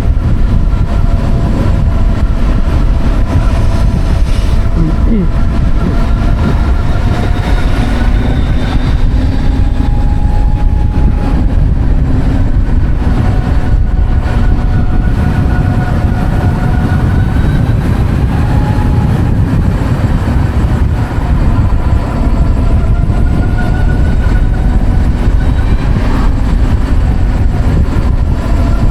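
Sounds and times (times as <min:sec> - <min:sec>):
electric motor whine: 0:00.0 - 0:28.9
wind rush over microphone: 0:00.0 - 0:28.9.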